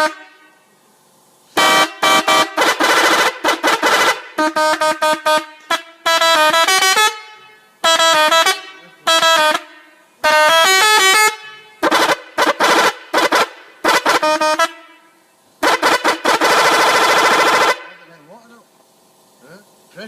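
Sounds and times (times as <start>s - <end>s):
musical bus horn tune: 0.0s - 0.7s, 1.5s - 18.0s
short horn blasts: 0.0s - 0.7s, 1.5s - 18.3s.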